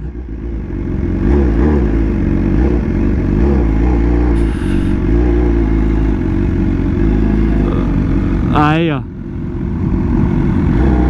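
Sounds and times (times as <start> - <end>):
motorcycle engine running: 0.0 - 11.0
low rumble: 1.8 - 11.0.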